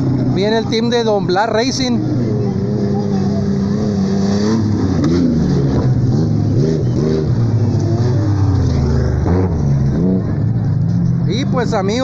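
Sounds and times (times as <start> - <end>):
race vehicle engines revving: 0.0 - 12.0.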